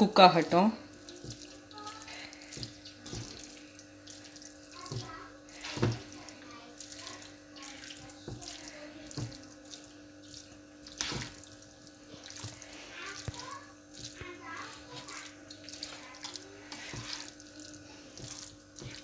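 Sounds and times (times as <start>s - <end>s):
wet squelching stirring: 0.0s - 19.0s.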